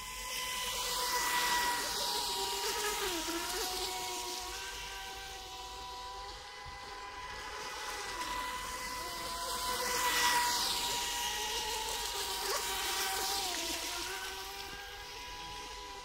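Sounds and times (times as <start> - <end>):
speedboat motor whine: 0.0 - 16.0.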